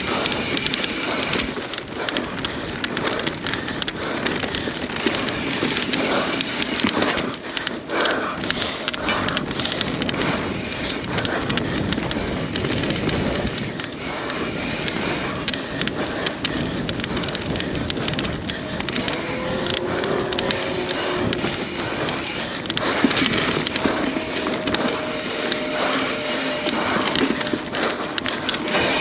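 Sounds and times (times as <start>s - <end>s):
bike rattling clicks and knocks: 0.0s - 29.0s
bike tyres rolling over dirt: 0.0s - 29.0s.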